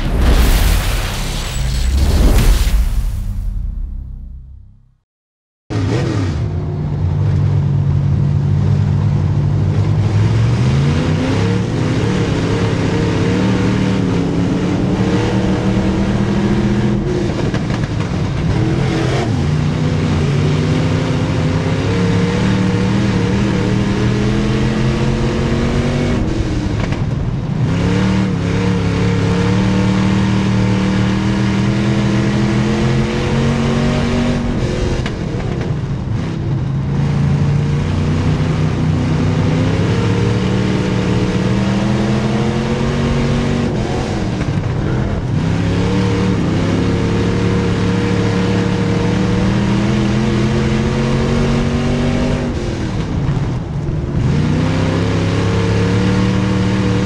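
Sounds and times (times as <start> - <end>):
race car engine revving: 8.6 - 57.0.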